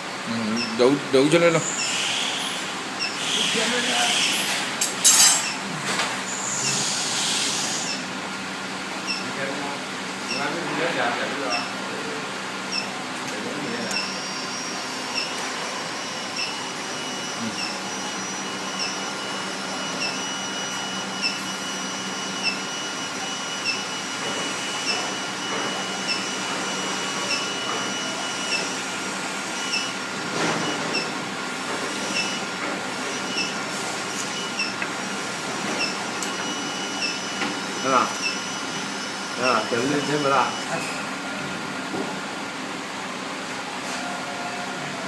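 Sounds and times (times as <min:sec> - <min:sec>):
furnace fan-like noise with whine: 0:00.0 - 0:45.0.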